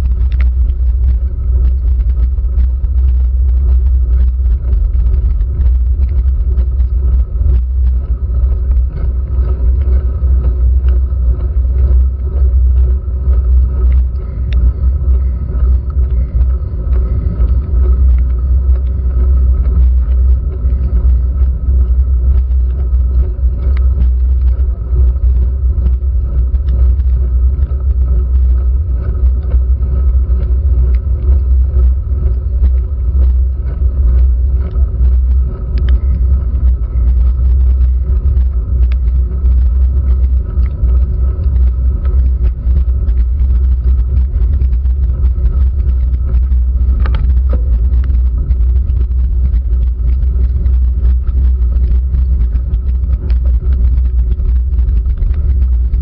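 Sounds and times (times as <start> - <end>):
low rumble: 0.0 - 56.0
raindrops ticking on camera housing: 0.0 - 56.0.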